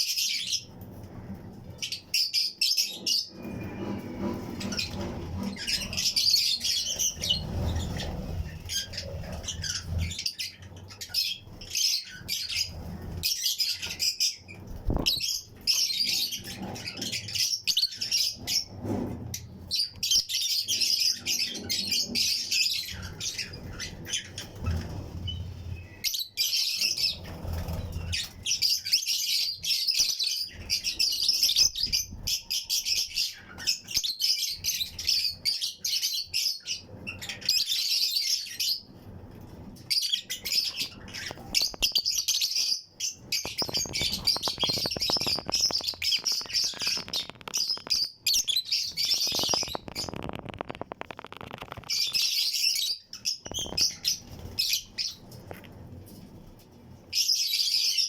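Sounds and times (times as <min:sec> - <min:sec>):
lovebirds chirping: 0:00.0 - 0:55.8.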